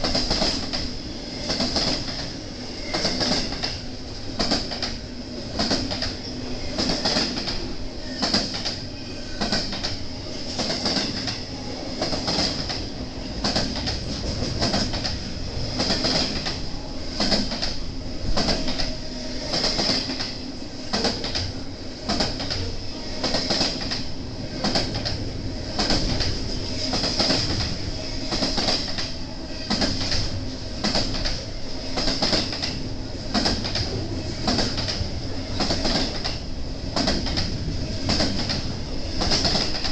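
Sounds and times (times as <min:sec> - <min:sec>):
train wheels clattering over rail joints: 0:00.0 - 0:08.8, 0:09.4 - 0:39.9
low train rumble: 0:00.0 - 0:39.9.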